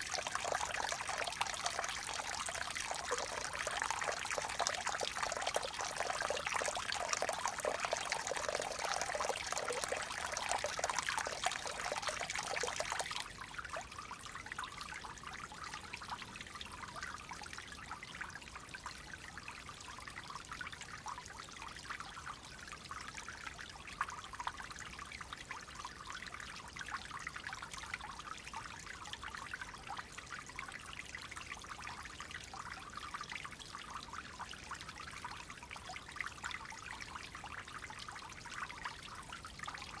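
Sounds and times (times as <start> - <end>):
stream water trickling: 0.0 - 40.0.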